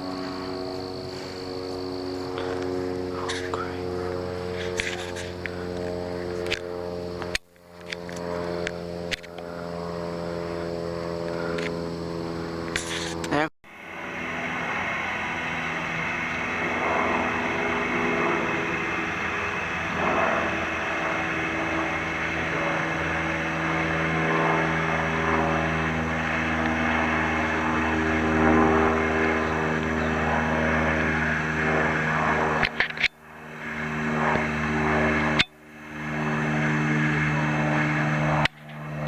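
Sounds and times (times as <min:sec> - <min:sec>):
aircraft engine droning: 0:00.0 - 0:39.0.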